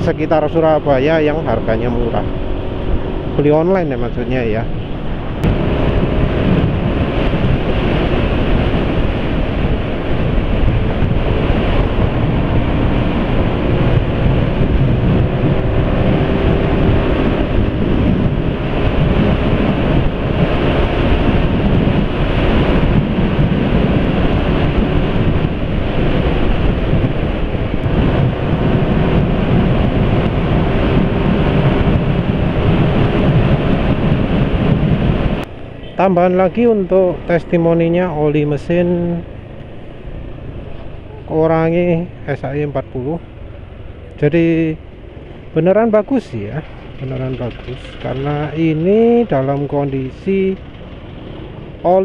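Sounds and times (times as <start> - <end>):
scooter engine drone: 0.0 - 52.0
wind buffeting microphone: 0.0 - 52.0.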